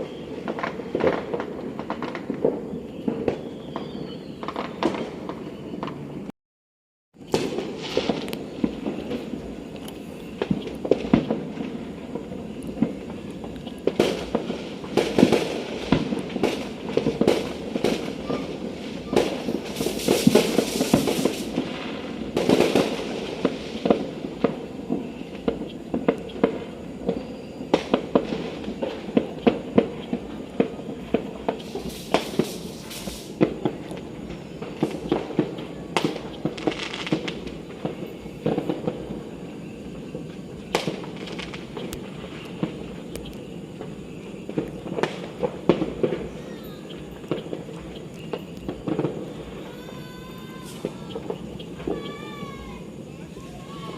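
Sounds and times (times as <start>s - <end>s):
firecrackers banging: 0.0s - 6.3s, 7.2s - 53.9s
fireworks hissing: 7.2s - 53.9s.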